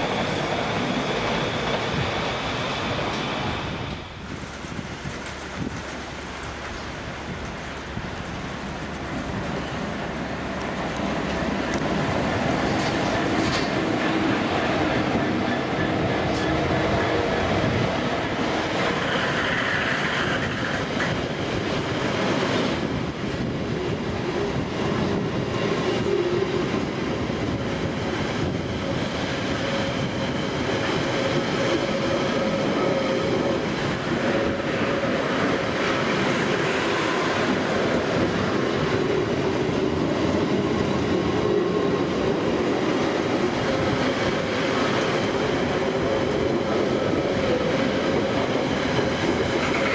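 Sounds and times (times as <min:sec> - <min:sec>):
train wheels on track: 0:00.0 - 0:49.9.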